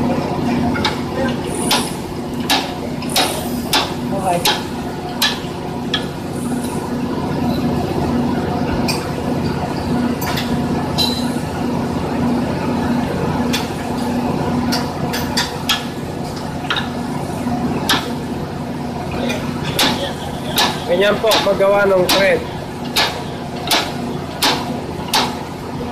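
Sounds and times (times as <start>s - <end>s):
pipe-threading machine humming: 0.0s - 25.9s.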